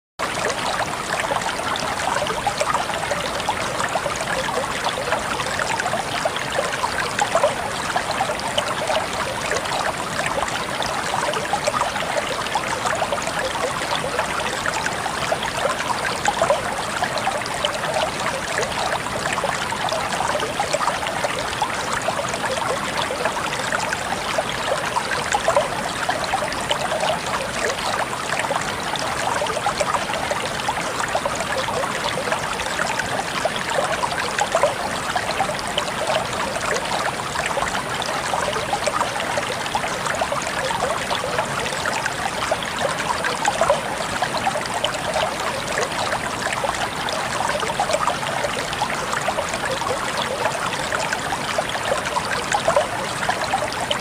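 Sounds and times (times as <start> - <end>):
stream of water trickling: 0.2 - 54.0.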